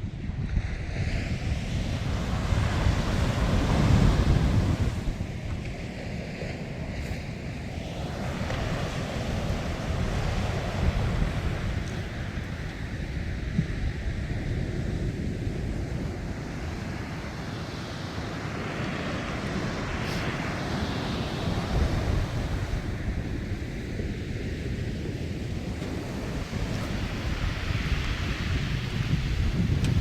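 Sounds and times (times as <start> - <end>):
sea waves washing: 0.0 - 30.0
wind buffeting microphone: 0.0 - 30.0.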